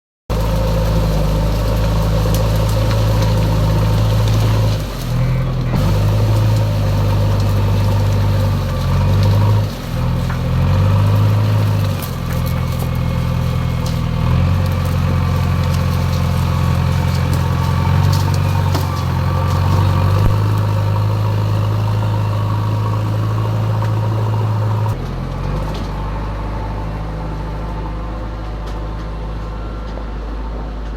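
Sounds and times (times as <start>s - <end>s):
backhoe diesel engine running: 0.3s - 30.9s.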